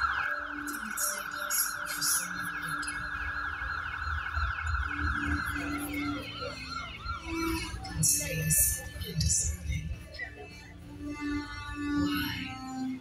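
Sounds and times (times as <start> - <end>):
siren wailing: 0.0 - 13.0
steady high tone: 0.0 - 13.0.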